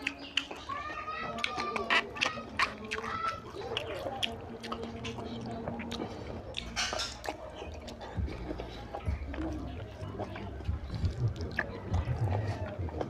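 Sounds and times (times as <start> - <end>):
wet smacking and chewing: 0.0 - 13.0.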